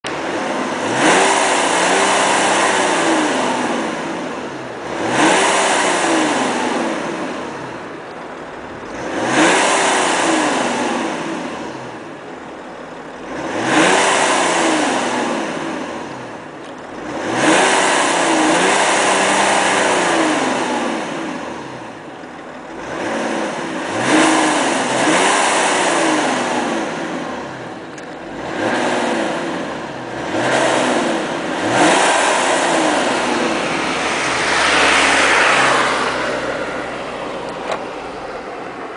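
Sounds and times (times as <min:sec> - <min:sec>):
diesel car engine revving: 0:00.0 - 0:38.9.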